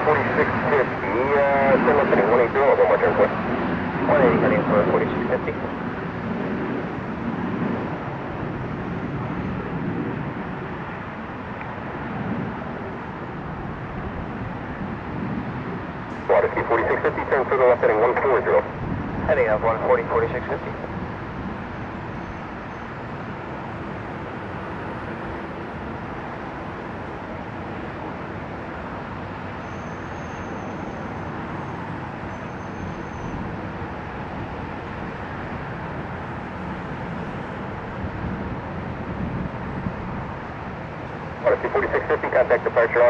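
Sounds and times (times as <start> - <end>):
distant jet aircraft rumble: 0.0 - 43.0
wind: 0.0 - 43.0.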